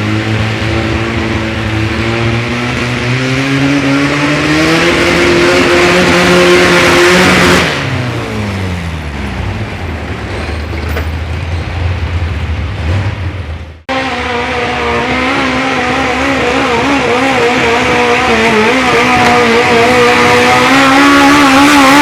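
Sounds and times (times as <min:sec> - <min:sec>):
garden tractor engine at full throttle: 0:00.0 - 0:10.9, 0:13.7 - 0:22.0.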